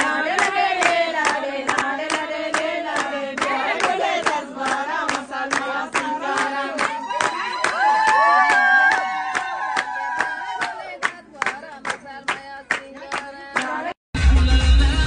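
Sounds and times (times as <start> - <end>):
voices singing together: 0.0 - 7.9, 9.8 - 15.0
hand clapping: 0.3 - 13.9.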